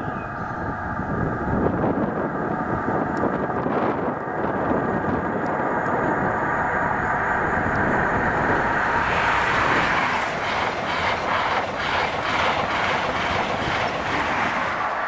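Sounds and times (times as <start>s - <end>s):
train passing at high speed: 0.0s - 15.0s
train wheel beats: 1.5s - 15.0s.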